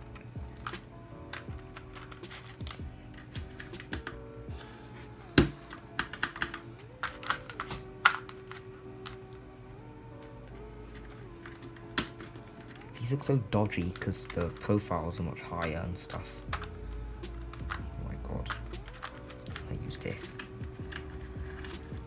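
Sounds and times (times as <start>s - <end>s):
keycaps clicking onto keyboard: 0.1s - 4.2s, 5.4s - 9.2s, 10.9s - 22.0s.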